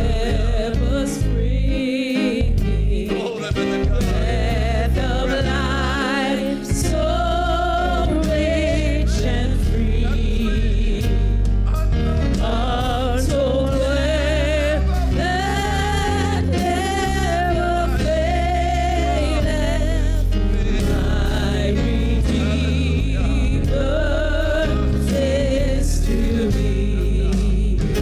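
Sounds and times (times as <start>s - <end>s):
women singing in harmony: 0.0s - 11.2s, 12.4s - 28.0s
instrumental backing music: 0.0s - 28.0s.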